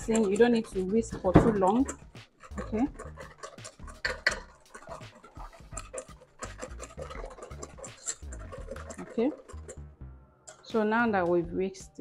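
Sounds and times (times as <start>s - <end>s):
whisk beating in metal bowl: 0.0s - 9.8s, 10.5s - 11.0s.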